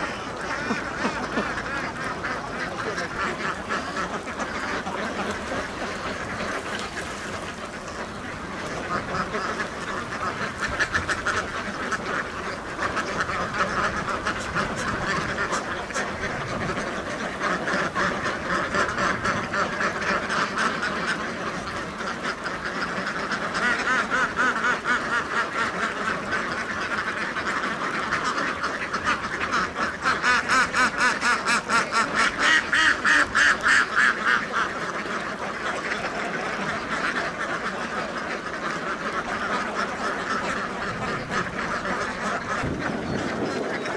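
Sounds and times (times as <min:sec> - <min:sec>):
ducks quacking: 0:00.0 - 0:43.9.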